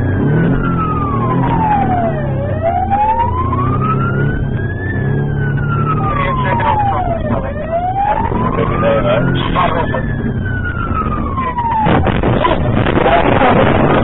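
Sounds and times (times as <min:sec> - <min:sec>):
engine drone: 0:00.0 - 0:14.0
police siren wailing: 0:00.0 - 0:14.0.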